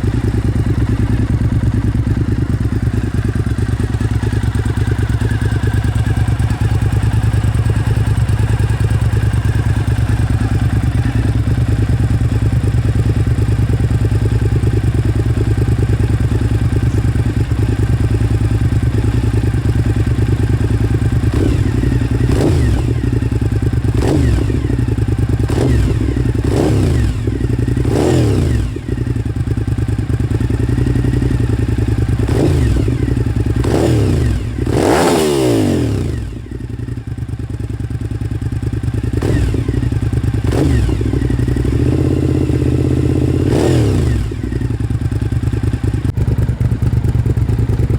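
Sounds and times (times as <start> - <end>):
motorcycle engine idling: 0.0 - 47.9
motorcycle engine revving: 0.0 - 47.9.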